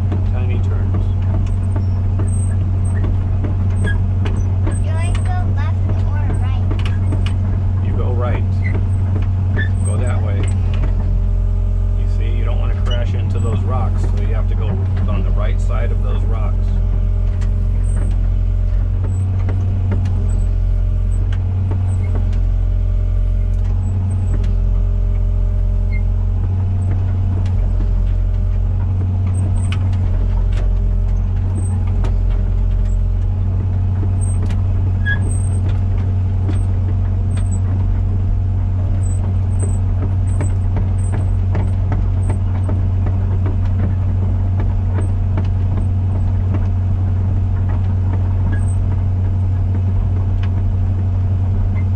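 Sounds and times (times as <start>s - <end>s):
excavator diesel engine running: 0.0s - 51.9s
hydraulic tones shifting: 0.0s - 51.9s.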